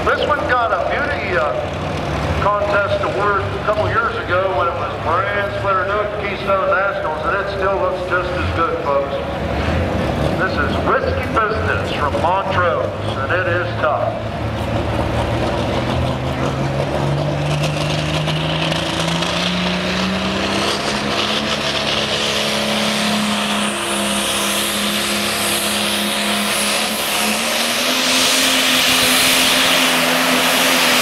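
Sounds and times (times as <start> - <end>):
tractor diesel engine at full throttle: 0.0 - 31.0.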